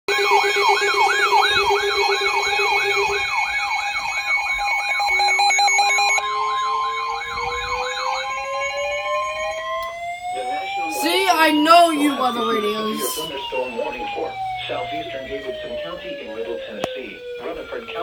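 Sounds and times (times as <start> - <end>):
electronic siren yelping: 0.1 - 18.0
second siren winding up: 0.1 - 18.0.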